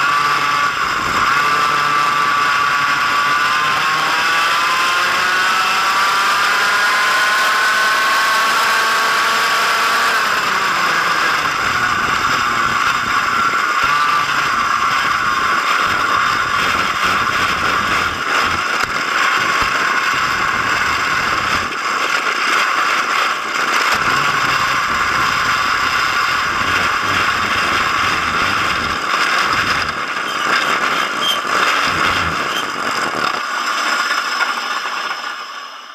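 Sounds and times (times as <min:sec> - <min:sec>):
kart engine running: 0:00.0 - 0:35.9.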